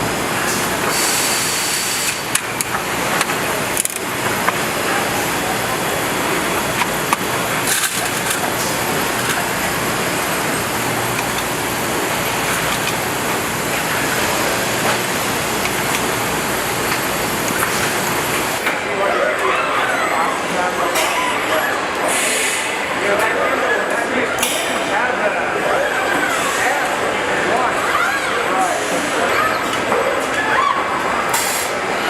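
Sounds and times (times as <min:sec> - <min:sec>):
factory machinery noise: 0:00.0 - 0:32.0.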